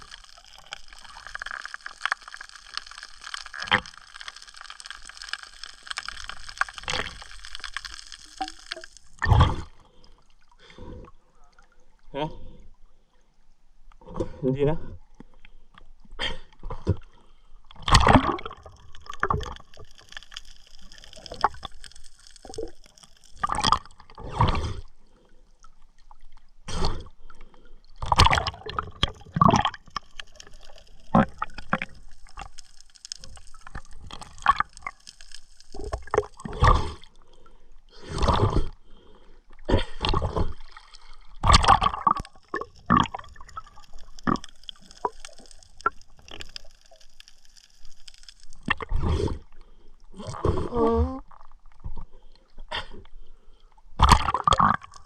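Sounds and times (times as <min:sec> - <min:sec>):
water gurgling and sloshing: 0:00.0 - 0:55.0.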